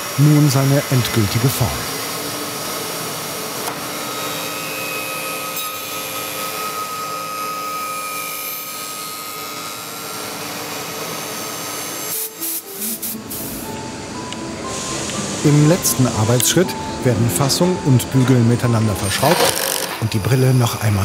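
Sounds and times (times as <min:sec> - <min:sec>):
milling machine whining: 0:00.0 - 0:21.0.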